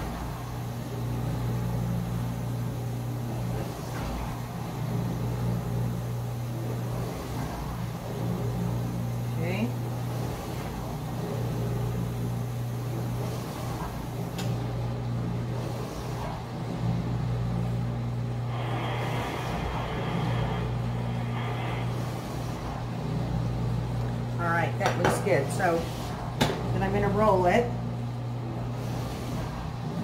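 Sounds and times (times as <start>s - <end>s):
low hum: 0.0s - 24.7s.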